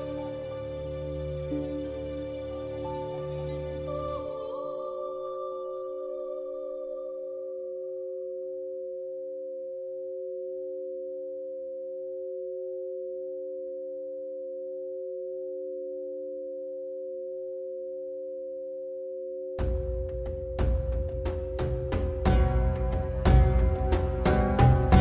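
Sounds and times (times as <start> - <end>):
electronic sine tone drone: 3.2 - 25.0.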